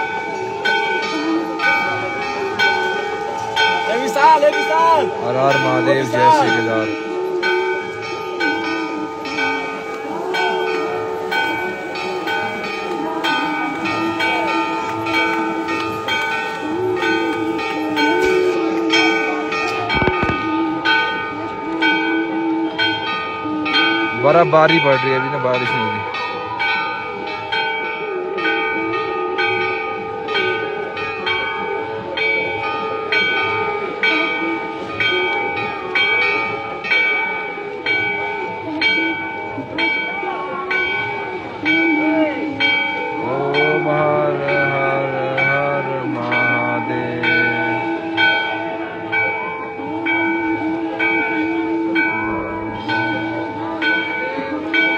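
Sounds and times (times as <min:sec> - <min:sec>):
voices chanting: 0:00.0 - 0:25.0, 0:25.6 - 0:54.9
temple bells ringing: 0:00.0 - 0:54.9.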